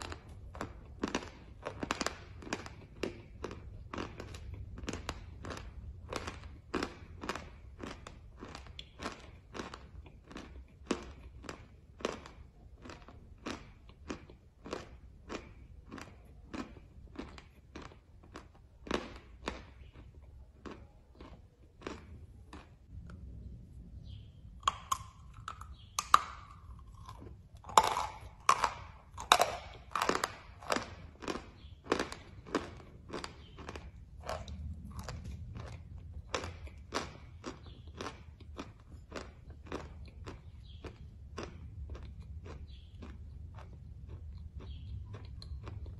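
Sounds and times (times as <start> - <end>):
chewing chalk crunches: 0.0 - 23.2, 24.6 - 45.9.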